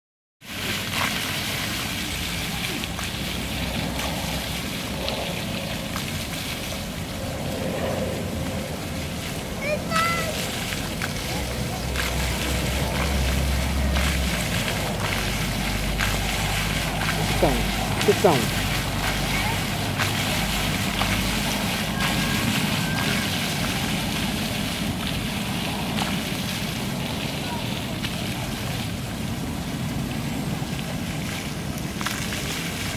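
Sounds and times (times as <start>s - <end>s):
fountain water splashing on paving: 0.4s - 32.9s.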